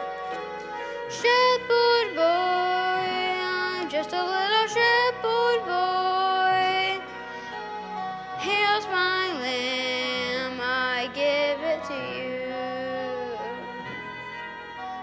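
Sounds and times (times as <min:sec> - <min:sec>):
soft instrumental accompaniment: 0:00.0 - 0:15.0.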